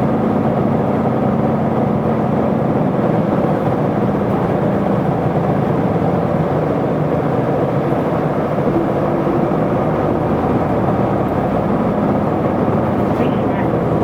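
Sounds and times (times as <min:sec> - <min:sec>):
bus diesel engine: 0:00.0 - 0:14.0
road noise: 0:00.0 - 0:14.0.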